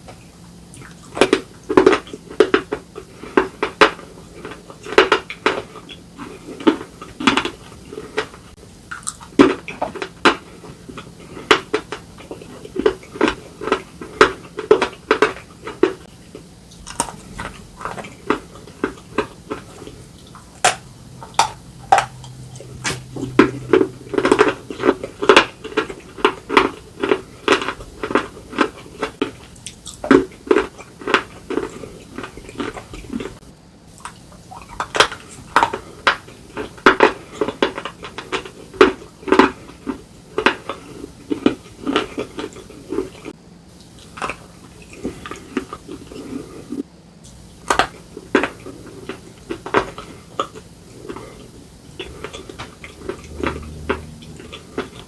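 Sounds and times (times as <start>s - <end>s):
crunchy chewing close up: 0.0s - 55.0s.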